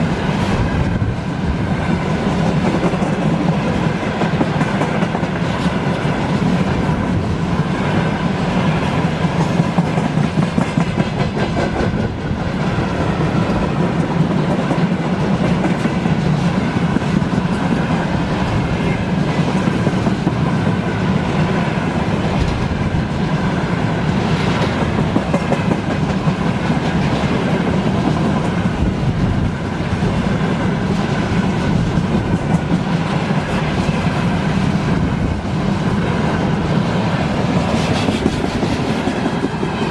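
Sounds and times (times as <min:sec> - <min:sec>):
train wheels clacking over rail joints: 0:00.1 - 0:39.9.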